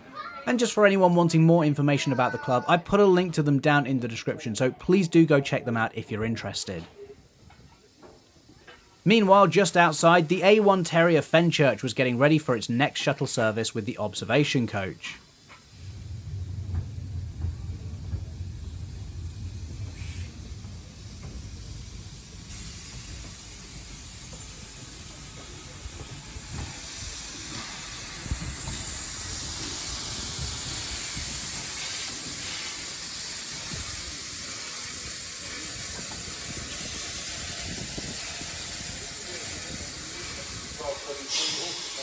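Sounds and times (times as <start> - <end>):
steam locomotive hissing: 6.3 - 42.0.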